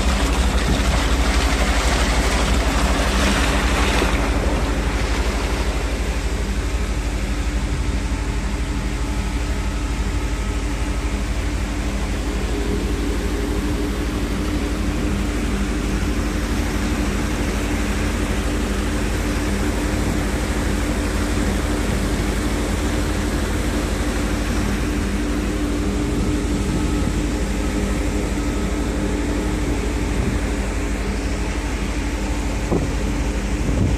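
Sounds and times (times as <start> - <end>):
steady machine hum: 0.0 - 33.9
water spilling over weir: 0.0 - 33.9.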